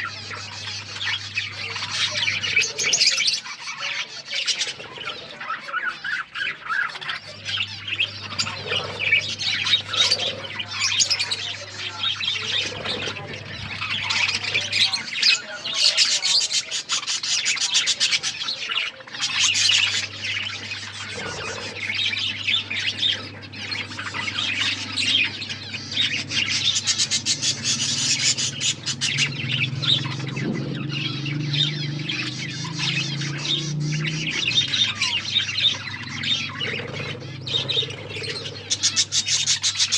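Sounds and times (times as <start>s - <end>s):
steady low hum: 0.0s - 5.5s, 6.4s - 15.6s, 16.6s - 39.9s
budgerigars chattering: 0.0s - 39.9s.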